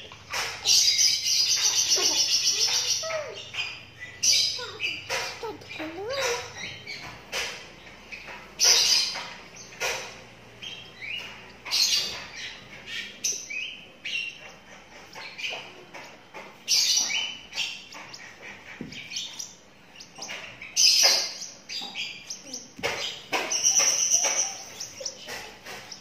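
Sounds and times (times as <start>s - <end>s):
bird chick chirping: 0.0s - 26.0s.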